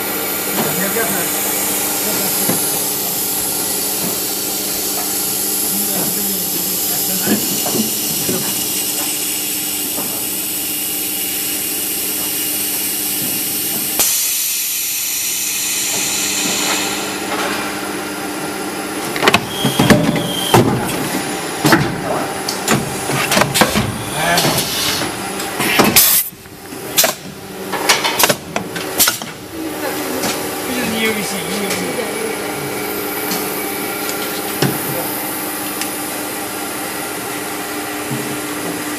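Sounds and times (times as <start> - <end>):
machine hiss and hum: 0.0 - 38.9.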